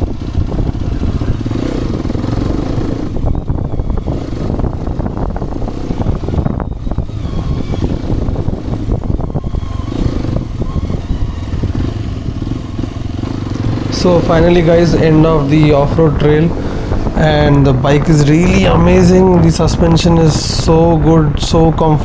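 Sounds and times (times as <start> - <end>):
motorcycle engine rumbling off-road: 0.0 - 22.0.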